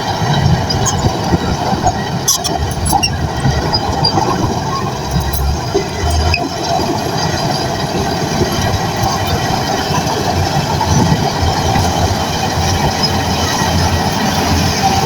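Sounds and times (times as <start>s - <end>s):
bulldozer diesel engine running: 0.0s - 15.0s
steel tracks rattling and clanking: 0.0s - 15.0s.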